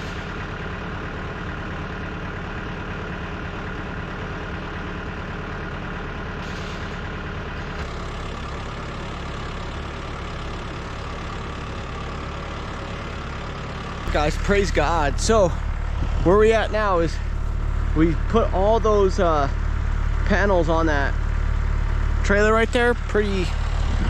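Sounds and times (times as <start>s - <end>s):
old tractor engine running: 0.0s - 24.0s.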